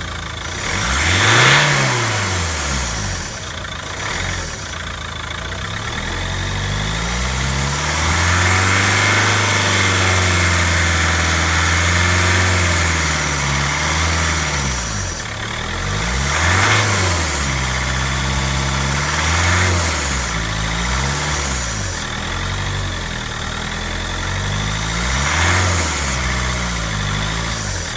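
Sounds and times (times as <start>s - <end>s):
diesel engine revving: 0.0s - 27.9s
engine belts whirring: 0.0s - 27.9s.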